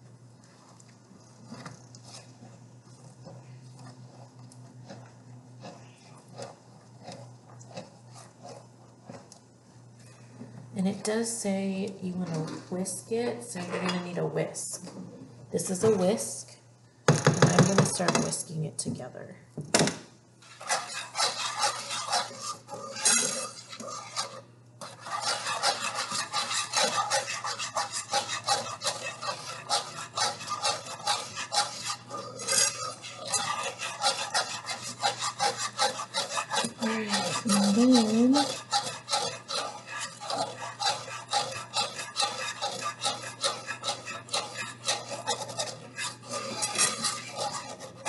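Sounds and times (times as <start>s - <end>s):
whisk scraping a frying pan: 0.0s - 11.4s, 20.4s - 48.0s.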